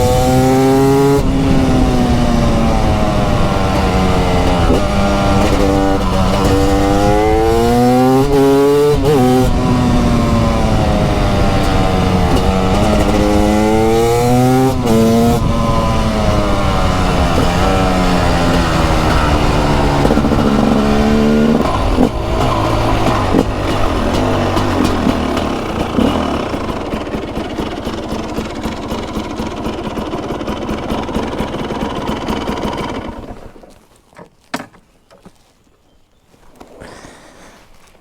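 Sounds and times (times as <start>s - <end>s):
motorcycle engine revs dropping: 0.0s - 33.6s
wind and road noise: 0.0s - 35.6s.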